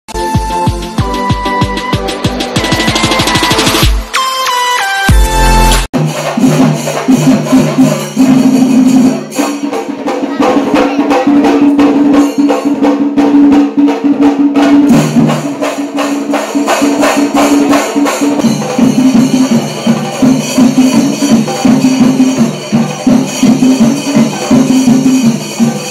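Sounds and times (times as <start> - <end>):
fast dense percussion: 0.1 - 4.2, 5.1 - 25.9.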